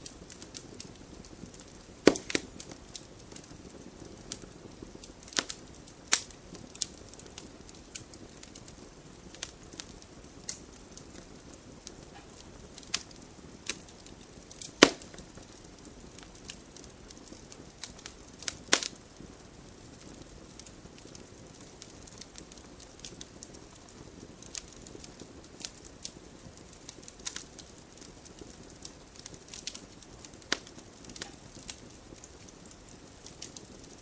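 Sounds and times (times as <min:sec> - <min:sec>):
low rush of burning: 0:00.0 - 0:34.0
wood fire snapping and popping: 0:00.0 - 0:34.0.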